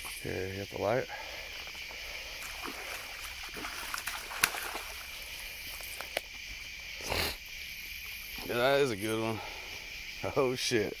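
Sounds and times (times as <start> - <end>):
water trickling and lapping: 0.0 - 10.2
crickets chirring: 0.0 - 11.0.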